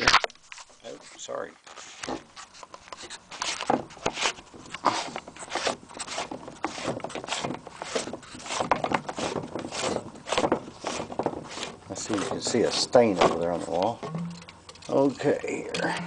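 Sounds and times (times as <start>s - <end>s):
plastic threads rasping: 2.4s - 15.9s.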